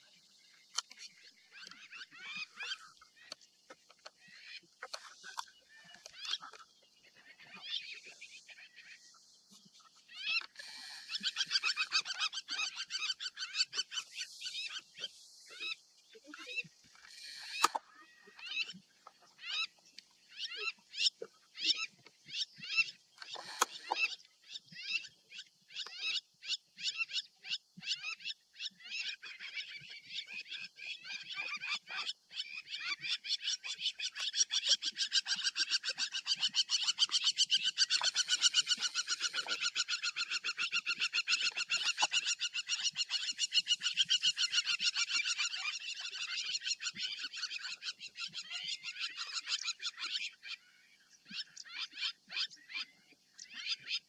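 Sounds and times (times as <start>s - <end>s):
chorus of high chirping calls: 4.1s - 50.6s.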